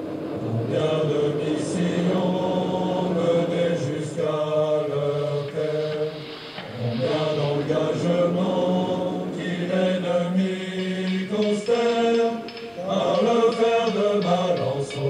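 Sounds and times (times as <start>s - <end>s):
choral chant: 0.0s - 15.0s.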